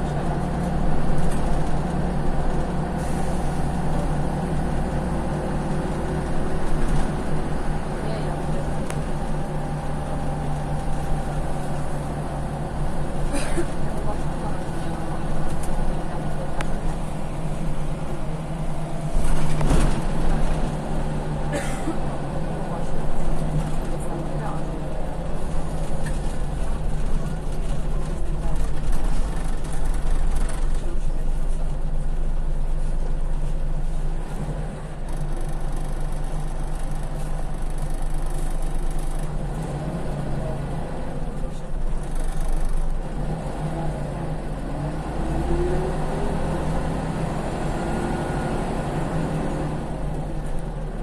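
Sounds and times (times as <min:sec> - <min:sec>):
bus engine low hum: 0:00.0 - 0:51.0.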